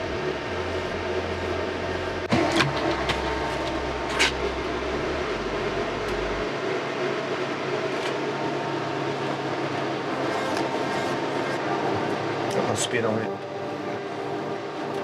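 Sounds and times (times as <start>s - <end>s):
heat pump fan whirring: 0.0s - 15.0s
low hum: 0.0s - 15.0s.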